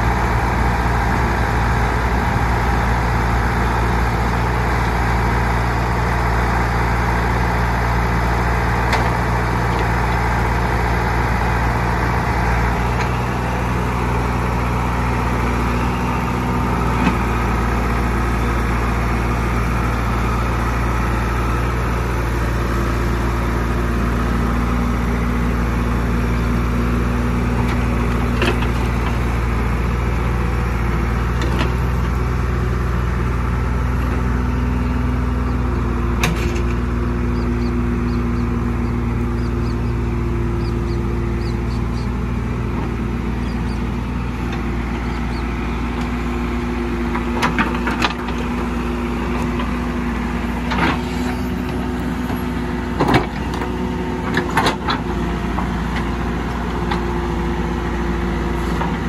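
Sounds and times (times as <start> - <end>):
diesel engine under hydraulic load: 0.0 - 59.0.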